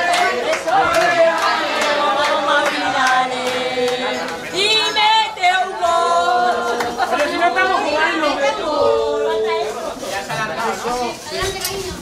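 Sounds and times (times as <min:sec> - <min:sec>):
group singing held notes: 0:00.0 - 0:10.0.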